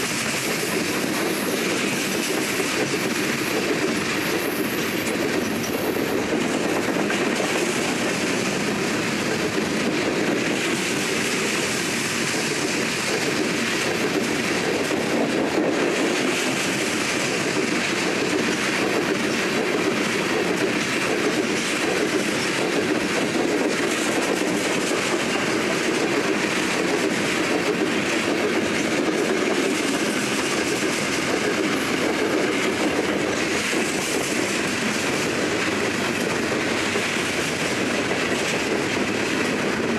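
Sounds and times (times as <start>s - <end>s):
train cars rolling past: 0.0s - 39.9s.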